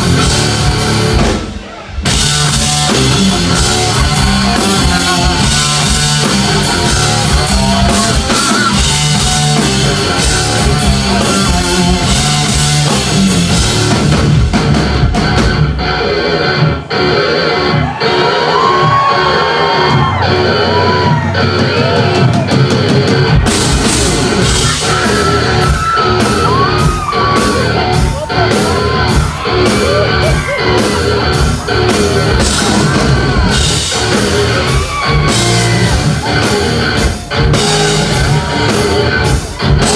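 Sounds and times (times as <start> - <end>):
people yelling: 0.0 - 14.0, 15.2 - 39.9
electric guitar: 0.0 - 39.9
heavy metal band playing live: 0.0 - 39.9.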